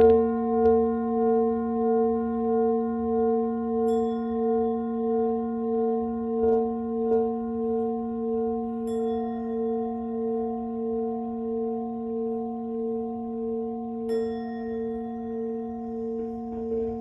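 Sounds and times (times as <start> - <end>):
singing bowl pulsing tone: 0.0 - 17.0.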